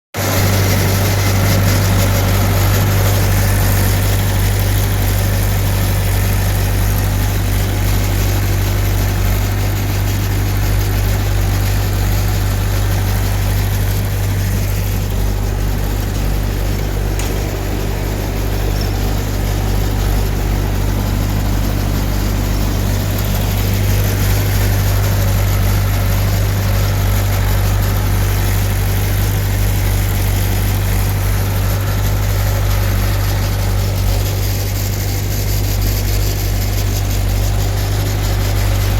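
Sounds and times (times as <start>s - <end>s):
tractor engine humming: 0.1s - 38.9s.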